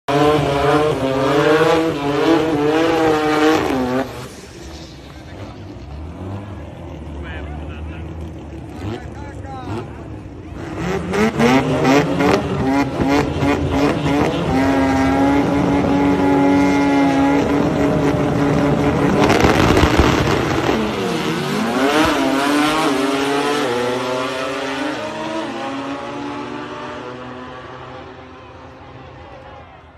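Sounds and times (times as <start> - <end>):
drag car engine revving: 0.1 - 29.2.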